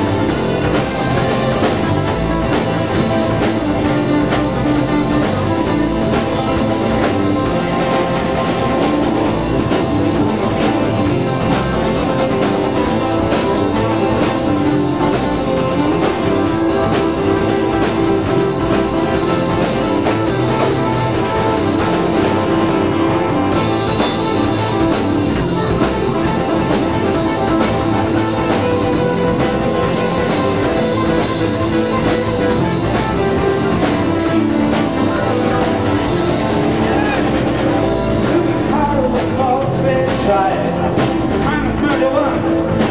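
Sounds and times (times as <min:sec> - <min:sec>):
electric guitar: 0:00.0 - 0:42.9
live rock band playing: 0:00.0 - 0:42.9
steady drum beat: 0:00.0 - 0:42.9.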